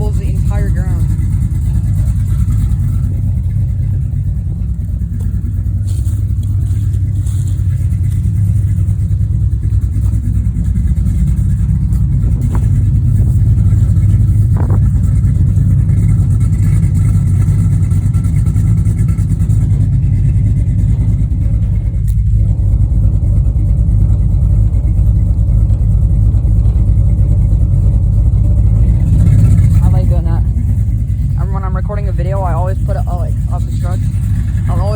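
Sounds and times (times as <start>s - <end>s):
vee-eight engine running: 0.0s - 34.9s.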